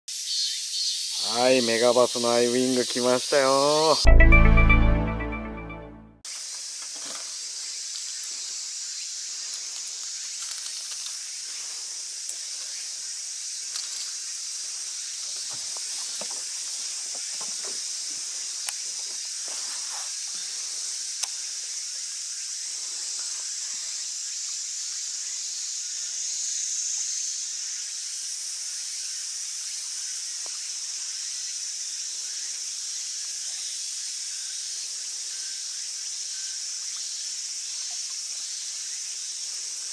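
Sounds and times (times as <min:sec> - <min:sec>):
cicadas chorus: 0:00.1 - 0:04.0, 0:06.3 - 0:39.9.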